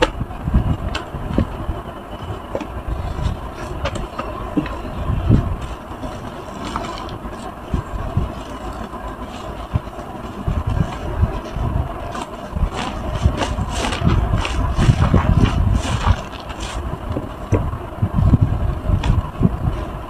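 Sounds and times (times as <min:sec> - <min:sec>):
foam crackling: 0:00.0 - 0:20.0.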